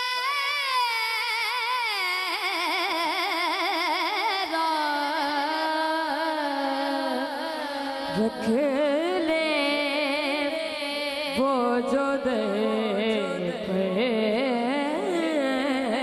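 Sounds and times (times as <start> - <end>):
boy singing into a microphone: 0.0 - 16.0.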